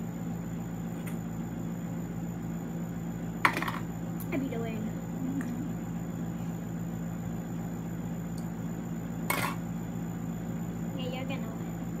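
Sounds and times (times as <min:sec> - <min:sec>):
low hum with hiss: 0:00.0 - 0:12.0.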